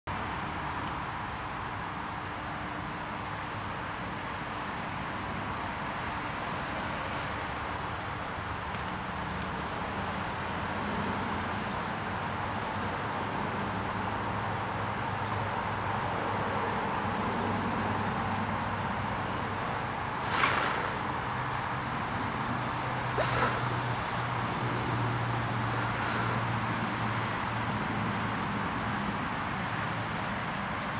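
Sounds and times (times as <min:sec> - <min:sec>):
distant traffic hum: 0:00.1 - 0:30.9.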